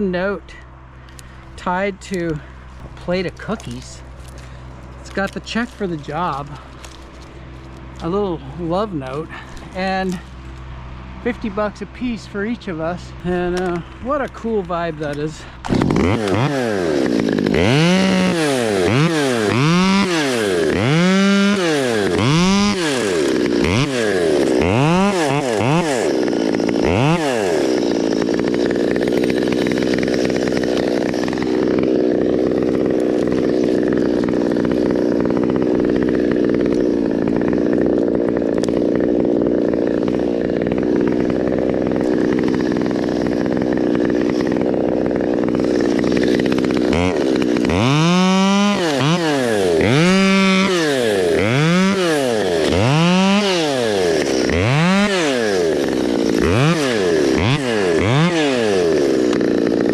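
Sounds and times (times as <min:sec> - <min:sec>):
chainsaw revving and cutting: 0:00.0 - 0:59.9.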